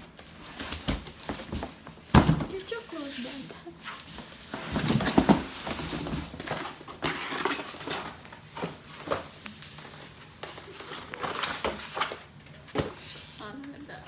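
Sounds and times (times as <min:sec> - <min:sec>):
vacuum cleaner parts clattering: 0:00.0 - 0:14.0.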